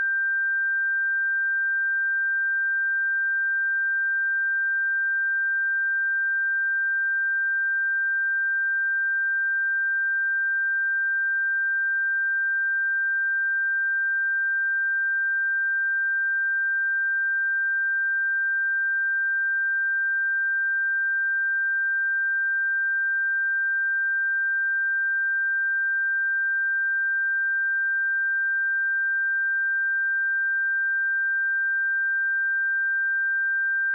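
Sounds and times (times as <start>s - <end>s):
high sine-wave test tone: 0.0s - 33.9s.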